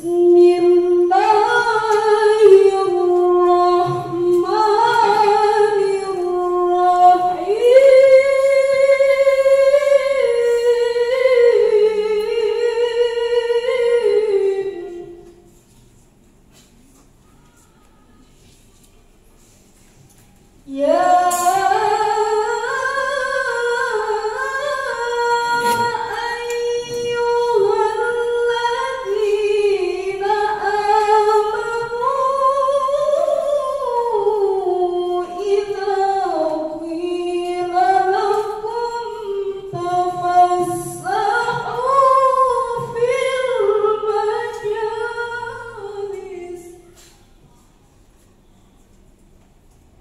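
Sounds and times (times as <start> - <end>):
woman chanting recitation: 0.0 - 15.6, 20.6 - 48.1.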